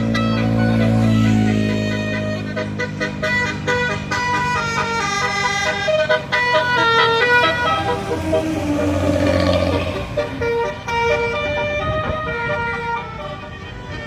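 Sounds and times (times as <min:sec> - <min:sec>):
musical air horn playing a tune: 0:00.0 - 0:14.0
road and engine rumble: 0:00.0 - 0:14.0.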